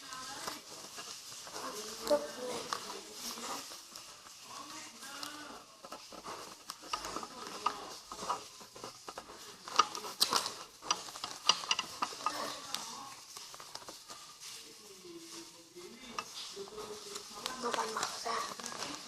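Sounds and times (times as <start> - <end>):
paper folding and crinkling: 0.0 - 19.0.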